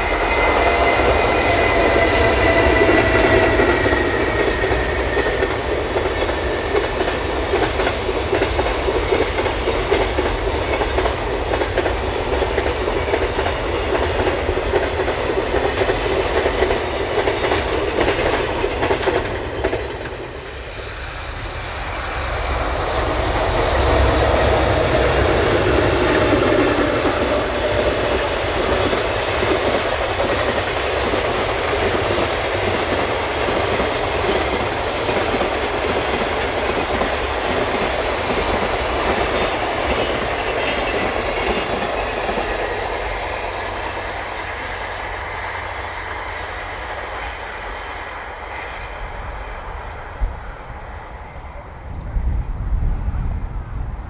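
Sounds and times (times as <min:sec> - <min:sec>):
train wheels clattering on rails: 0:00.0 - 0:51.4.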